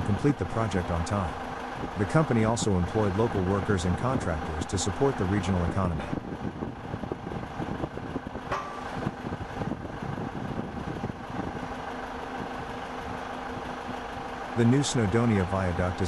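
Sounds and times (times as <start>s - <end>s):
machine hum with low rumble: 0.0s - 16.0s.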